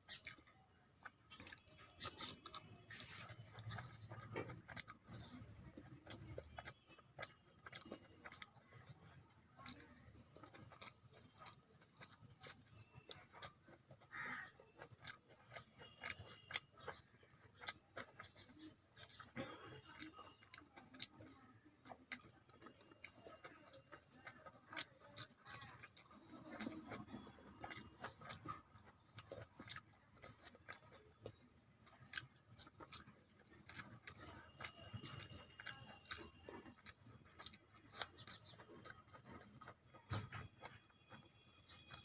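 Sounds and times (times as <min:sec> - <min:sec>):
person chewing with mouth clicks: 0:00.0 - 0:42.0.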